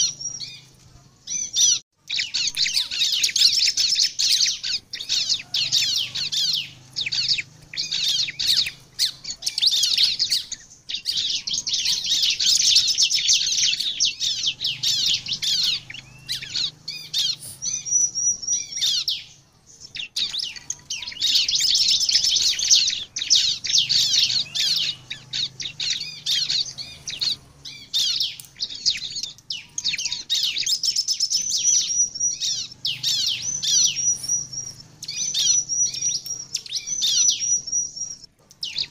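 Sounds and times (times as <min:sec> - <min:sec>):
bird rapid high chirping: 0:00.0 - 0:38.9.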